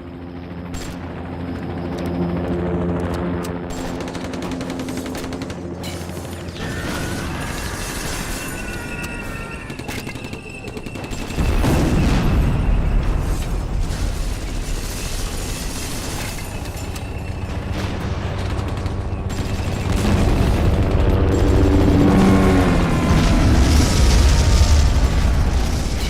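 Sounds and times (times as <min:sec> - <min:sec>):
rapid gunfire-like shots: 0:03.6 - 0:26.0.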